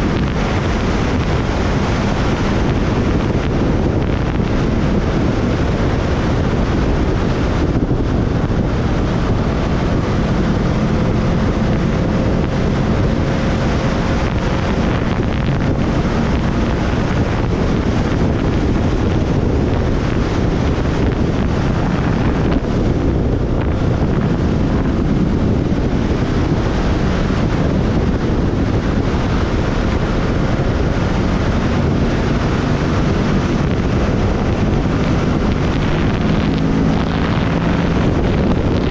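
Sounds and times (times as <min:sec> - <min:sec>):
faint motorcycle engine drone: 0:00.0 - 0:38.9
wind rush on microphone: 0:00.0 - 0:38.9.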